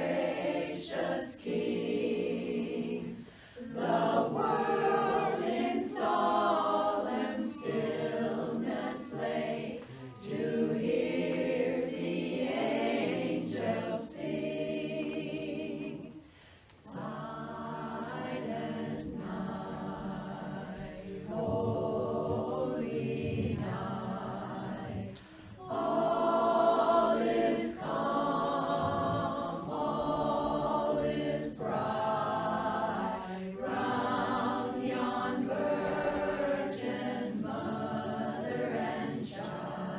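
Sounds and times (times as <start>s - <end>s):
women's chorus singing a cappella: 0.0s - 39.9s.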